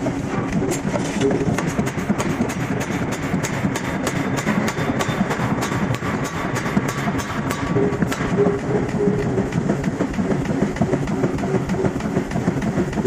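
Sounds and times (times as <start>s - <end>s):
heavy machinery rumbling: 0.0s - 13.0s.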